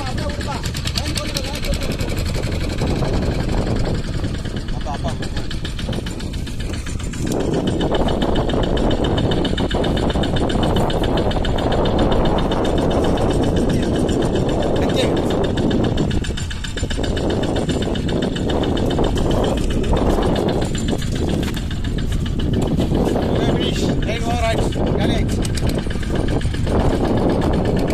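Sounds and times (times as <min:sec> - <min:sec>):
outboard engine running: 0:00.0 - 0:27.9.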